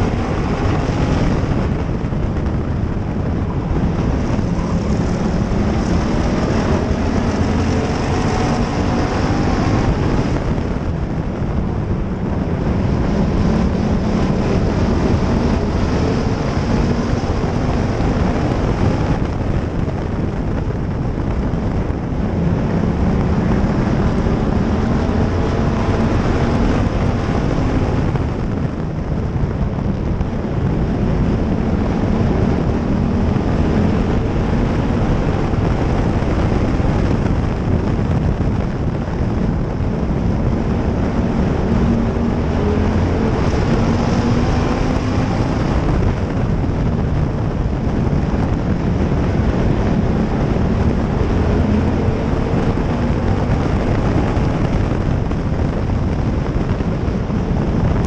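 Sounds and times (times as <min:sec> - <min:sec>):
race car engine running hard: 0:00.0 - 0:58.0
wind rushing: 0:00.0 - 0:58.0.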